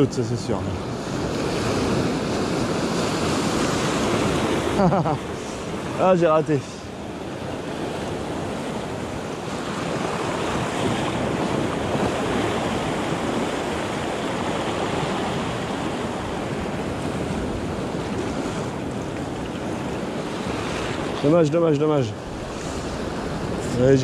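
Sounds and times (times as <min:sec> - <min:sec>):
surf washing on shore: 0:00.0 - 0:24.0
wind buffeting microphone: 0:00.0 - 0:24.0.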